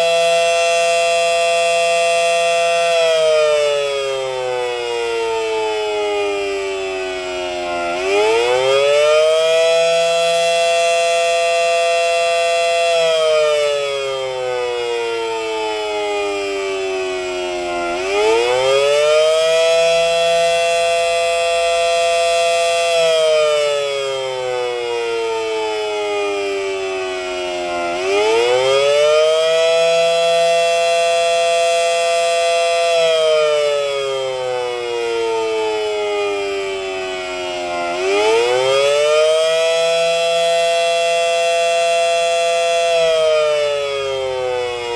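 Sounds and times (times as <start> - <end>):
warning siren wailing: 0.0 - 44.9.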